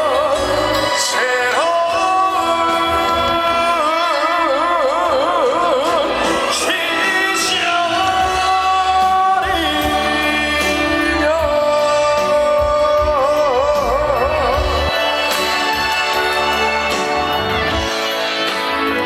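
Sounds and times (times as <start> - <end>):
man singing long notes: 0.0 - 18.2
instrumental backing: 0.0 - 19.0.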